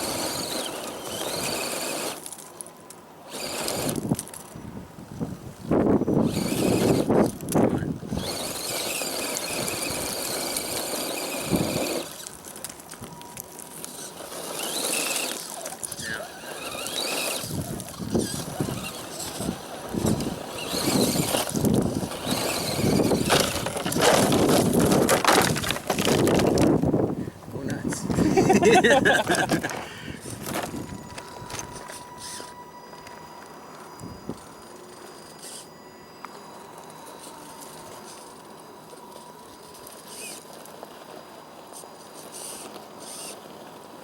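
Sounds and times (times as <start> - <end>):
electric motor whining: 0.0 - 2.4, 3.2 - 27.1, 27.8 - 44.0
rough drivetrain noise: 0.0 - 4.6, 5.8 - 27.1, 27.9 - 44.0.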